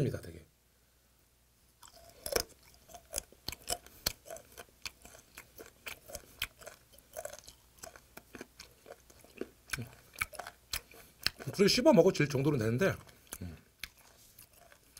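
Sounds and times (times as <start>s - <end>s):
chewing crunches and clicks: 1.8s - 14.9s.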